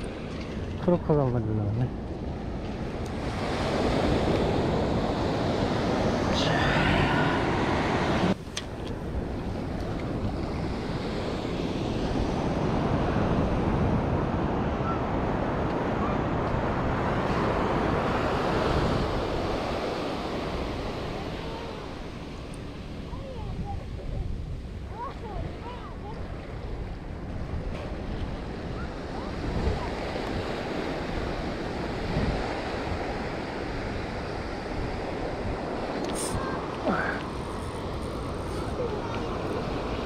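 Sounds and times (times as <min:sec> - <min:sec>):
surf washing onto beach: 0:00.0 - 0:40.0
wind buffeting microphone: 0:00.0 - 0:40.0.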